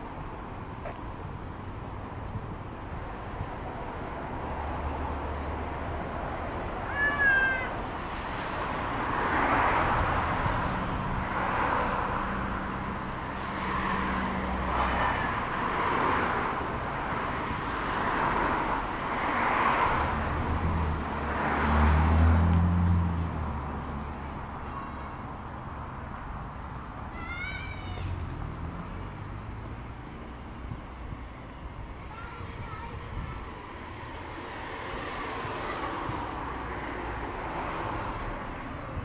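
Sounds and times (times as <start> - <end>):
low rumble of passing traffic: 0.0 - 39.0.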